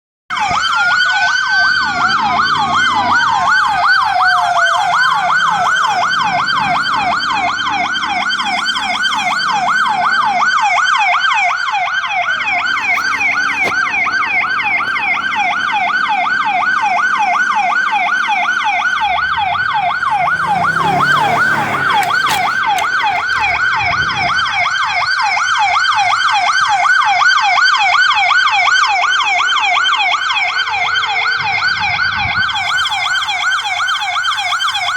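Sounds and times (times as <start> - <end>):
siren wailing: 0.3 - 34.9
siren yelping: 0.3 - 34.9.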